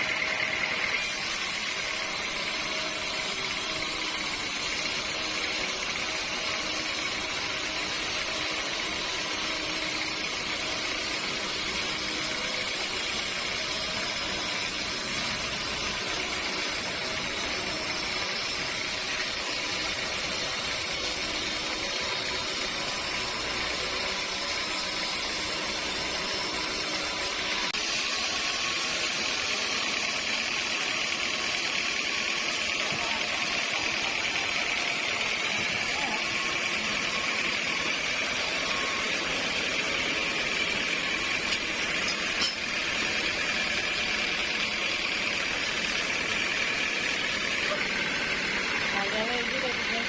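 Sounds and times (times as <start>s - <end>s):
sawmill machinery running: 0.0s - 50.0s.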